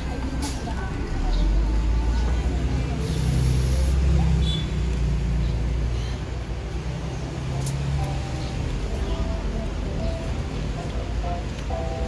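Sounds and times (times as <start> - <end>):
faint murmur of voices: 0.0 - 12.0
traffic rumble: 0.0 - 12.0.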